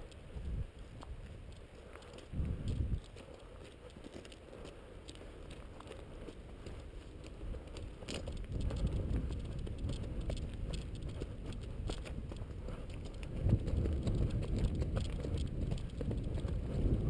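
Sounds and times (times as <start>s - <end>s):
wind rumble on microphone: 0.0s - 3.7s, 5.1s - 17.0s
footsteps on gravel: 0.8s - 17.0s.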